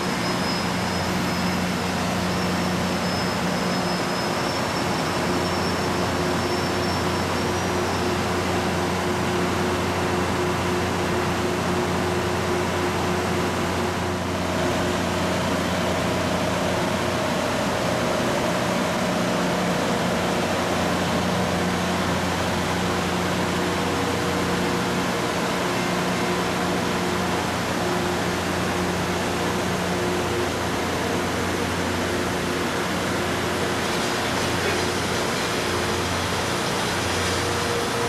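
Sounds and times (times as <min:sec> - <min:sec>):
rail grinder running: 0:00.0 - 0:38.0.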